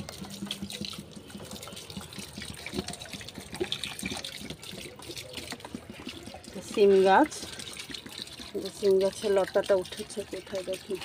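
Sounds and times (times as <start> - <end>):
water pouring onto plant: 0.0 - 11.0.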